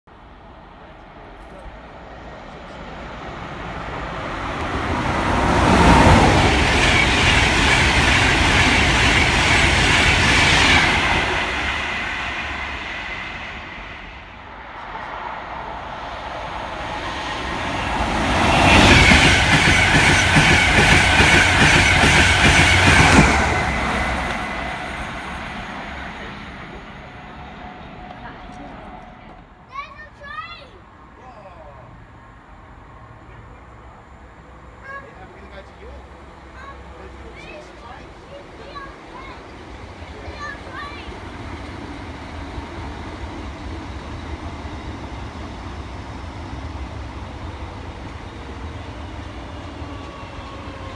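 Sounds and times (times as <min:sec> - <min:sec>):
trains passing at speed: 0:00.1 - 0:50.9.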